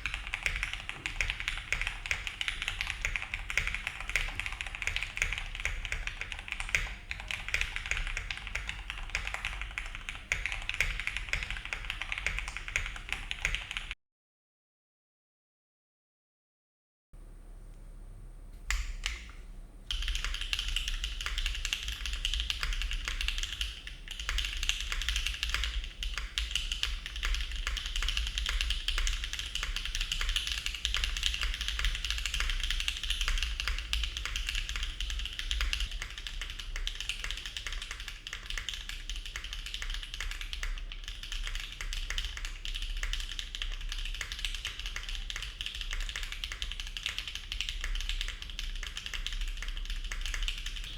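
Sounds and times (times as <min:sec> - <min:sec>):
typing on mechanical keyboard: 0:00.0 - 0:14.0, 0:19.9 - 0:50.9.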